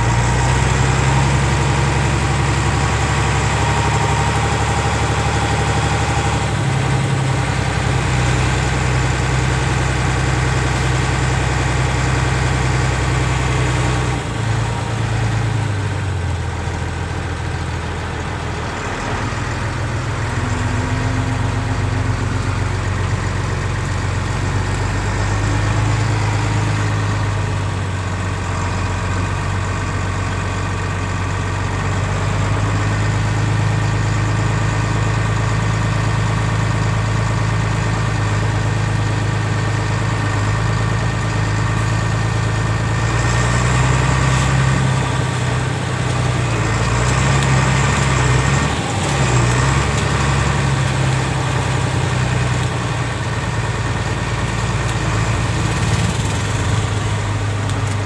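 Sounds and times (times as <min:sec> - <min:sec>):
diesel truck engine inside cab: 0:00.0 - 0:58.0.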